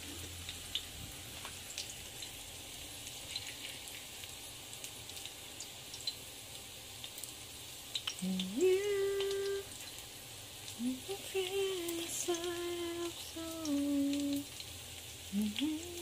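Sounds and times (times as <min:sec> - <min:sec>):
oil sizzling with crackles: 0:00.0 - 0:16.0.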